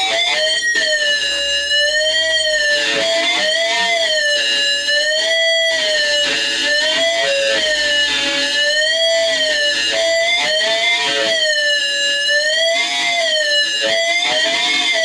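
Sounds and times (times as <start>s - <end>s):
guitar notes: 0.0s - 11.6s, 12.5s - 15.0s
electric guitar feedback howl: 0.0s - 15.0s.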